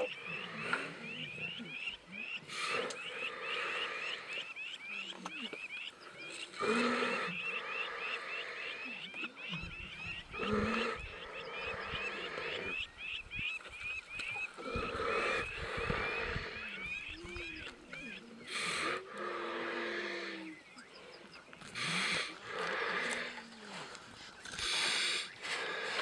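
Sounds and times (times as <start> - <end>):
lions growling: 0.0 - 5.4, 6.0 - 12.8, 14.5 - 26.0.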